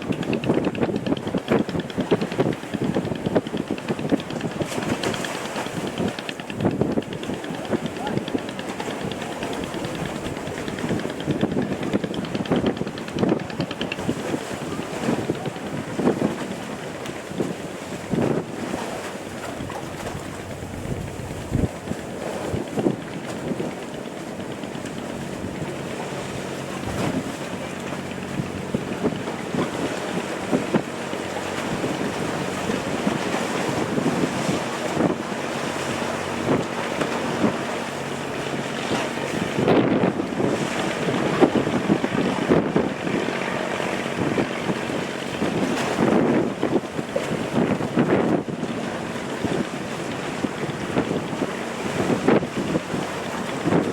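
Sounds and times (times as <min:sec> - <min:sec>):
low boat engine hum: 0:00.0 - 0:53.9
water washing against hull: 0:00.0 - 0:53.9
wind buffeting microphone: 0:00.0 - 0:53.9.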